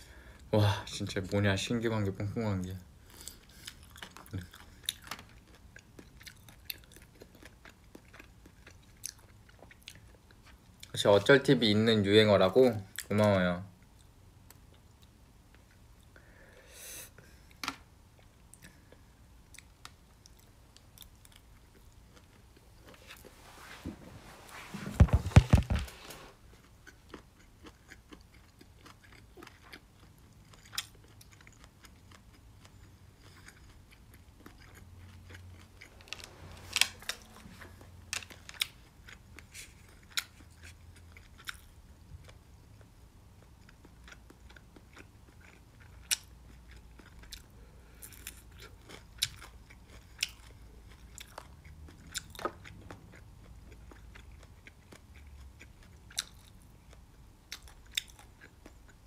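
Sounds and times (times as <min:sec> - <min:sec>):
person chewing food: 0:03.0 - 0:10.9, 0:17.1 - 0:23.9, 0:24.5 - 0:59.0.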